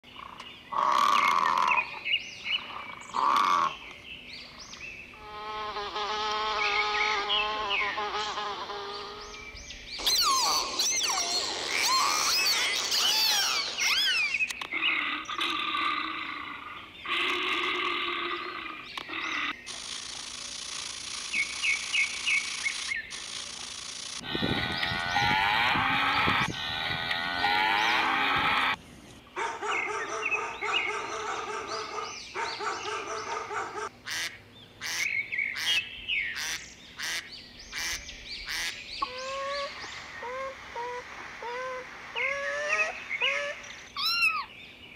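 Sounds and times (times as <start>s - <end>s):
birds chirping: 0.0s - 44.9s
animal calls: 2.6s - 3.8s, 5.1s - 28.8s, 29.4s - 35.8s, 36.4s - 44.5s.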